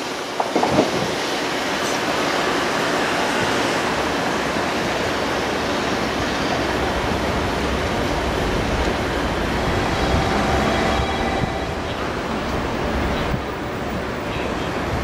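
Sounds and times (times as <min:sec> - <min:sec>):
electric railcar running slowly: 0:00.0 - 0:15.0.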